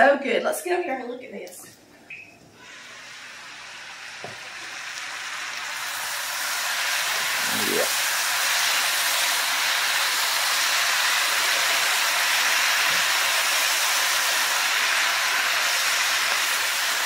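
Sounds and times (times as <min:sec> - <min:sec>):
vegetables sizzling in a skillet: 0:02.6 - 0:17.0.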